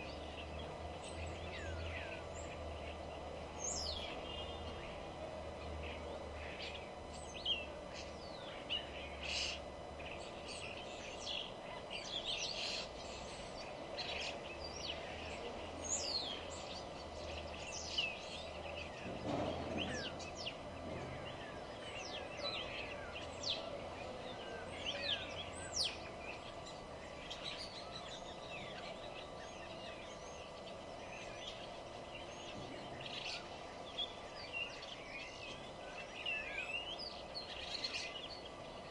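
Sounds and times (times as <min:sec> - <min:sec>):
steady background hum: 0:00.0 - 0:38.9
wild birds chirping: 0:00.0 - 0:38.9.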